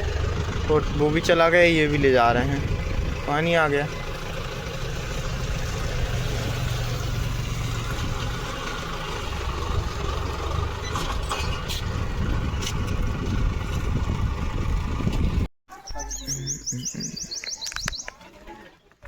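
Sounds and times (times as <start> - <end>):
tractor engine running: 0.0 - 18.1.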